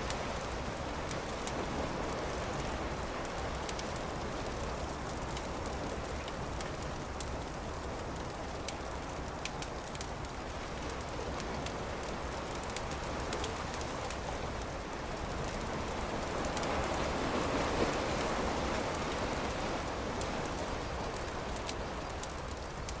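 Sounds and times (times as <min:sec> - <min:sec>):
campfire crackling and popping: 0:00.1 - 0:17.4, 0:18.0 - 0:23.0.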